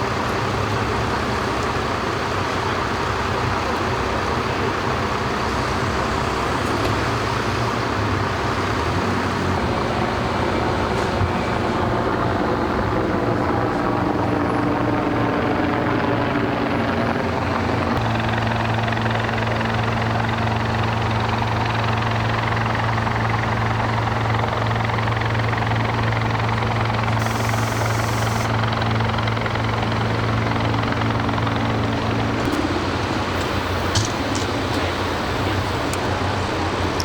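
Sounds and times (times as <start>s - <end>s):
helicopter engine and rotor: 0.0s - 37.0s.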